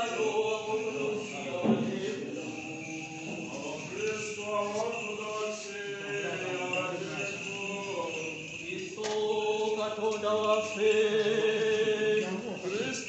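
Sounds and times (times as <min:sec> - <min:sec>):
voices singing held notes: 0:00.0 - 0:13.0.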